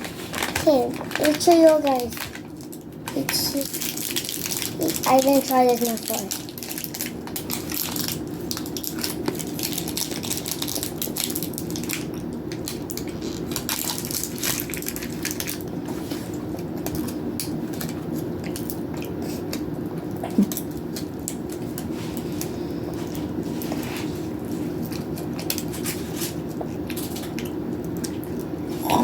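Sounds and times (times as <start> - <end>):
crackling and crunching: 0.0 - 29.0
steady low hum: 0.0 - 29.0.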